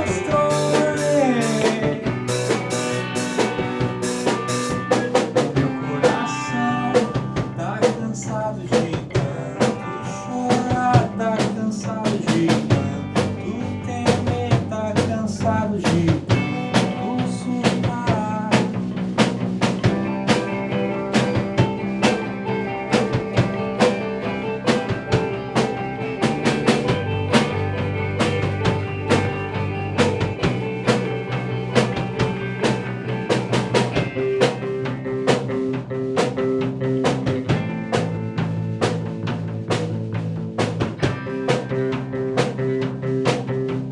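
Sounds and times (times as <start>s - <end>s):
bass guitar: 0.0s - 43.9s
drum kit beat with rimshots: 0.0s - 43.9s.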